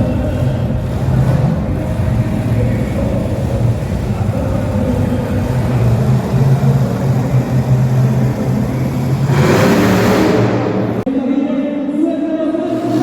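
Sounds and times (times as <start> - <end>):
loud rushing noise: 0.0 - 11.1, 12.7 - 13.0
vehicle engine running loudly: 0.0 - 11.1, 12.7 - 13.0.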